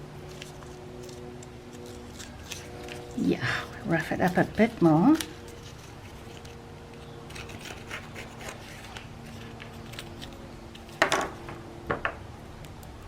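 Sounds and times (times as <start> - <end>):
paper rustling and scraping: 0.1 - 11.4.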